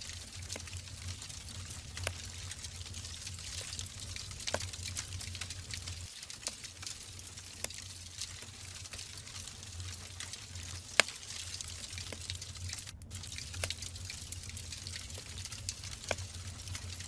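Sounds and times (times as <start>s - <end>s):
low steady rumble: 0.0s - 17.0s
wood fire crackling and popping: 0.0s - 17.0s.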